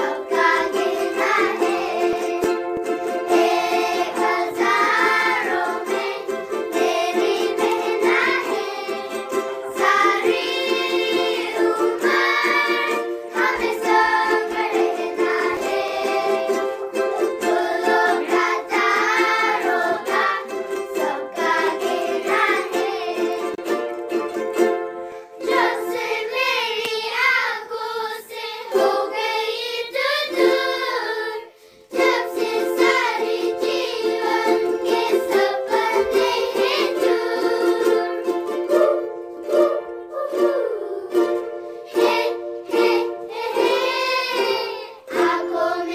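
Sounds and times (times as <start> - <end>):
children singing: 0.0 - 24.5, 25.4 - 45.9
ukuleles strumming: 0.0 - 45.9.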